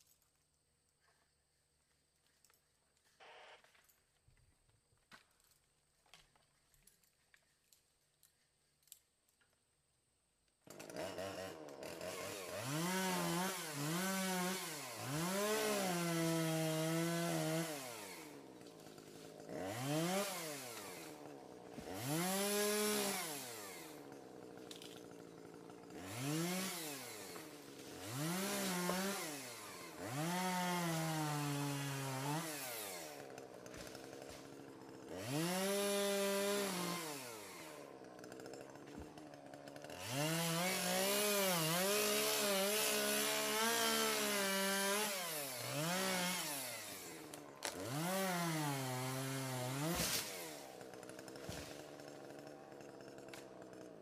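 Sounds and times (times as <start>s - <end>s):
chainsaw cutting small trees: 3.0s - 4.0s, 10.5s - 54.0s
chainsaw revving: 10.6s - 54.0s.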